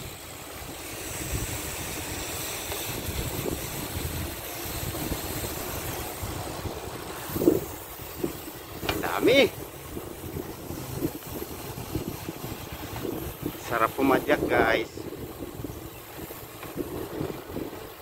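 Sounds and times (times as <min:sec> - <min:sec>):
road noise hiss: 0:00.0 - 0:18.0
wind buffeting microphone: 0:00.0 - 0:18.0.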